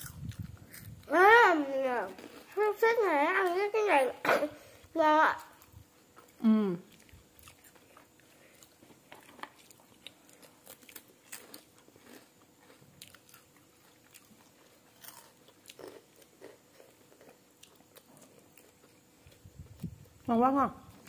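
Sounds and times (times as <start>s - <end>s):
child chewing crunchy snack: 0.0s - 1.2s, 1.8s - 3.8s, 4.7s - 20.3s.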